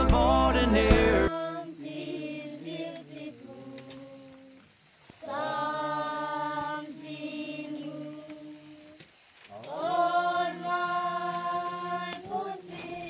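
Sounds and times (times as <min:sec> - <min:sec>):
children singing unaccompanied: 0:00.0 - 0:04.5, 0:05.1 - 0:13.0.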